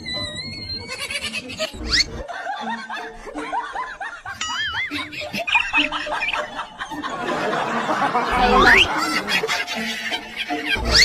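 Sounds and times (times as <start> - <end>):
people laughing: 0.8 - 11.0.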